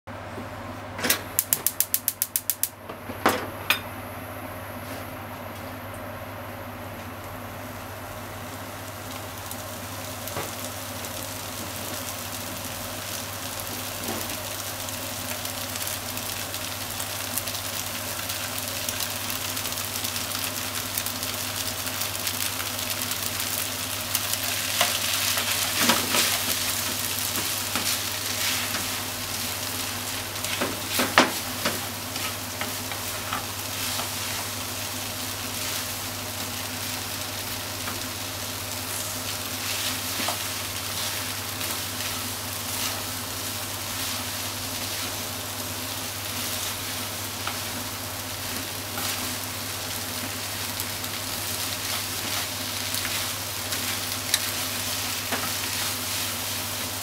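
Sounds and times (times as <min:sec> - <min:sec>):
noodles sizzling in a frying pan: 0:06.0 - 0:57.0.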